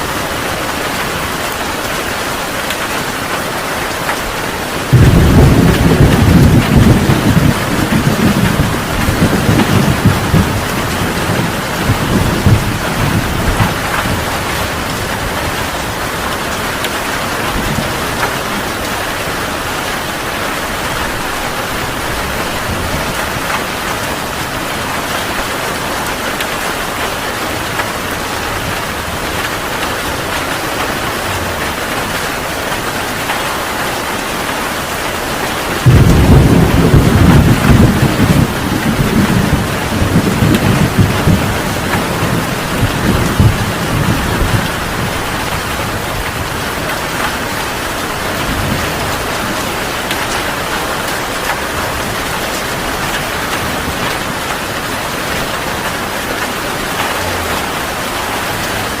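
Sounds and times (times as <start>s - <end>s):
heavy rain pouring: 0.0s - 59.0s
thunder rumbling: 4.0s - 59.0s.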